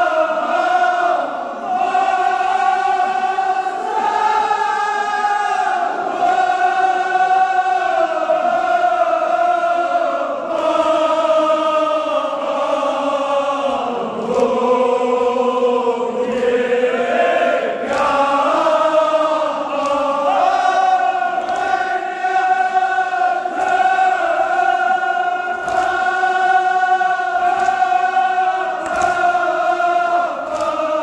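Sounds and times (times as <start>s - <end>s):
men chanting in chorus: 0.0s - 31.0s.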